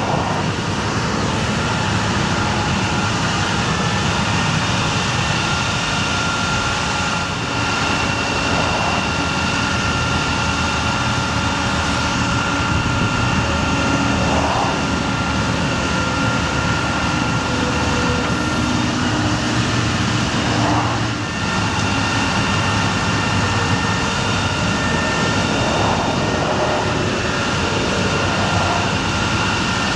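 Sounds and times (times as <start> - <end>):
steady high whine: 0.0 - 29.9
truck engine drone: 0.0 - 29.9.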